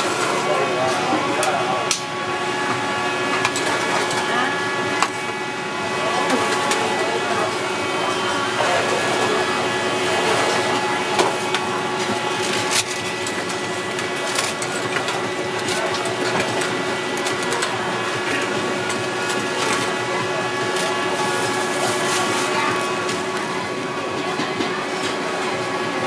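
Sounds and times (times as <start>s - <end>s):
mechanical hum and whir: 0.0s - 26.0s.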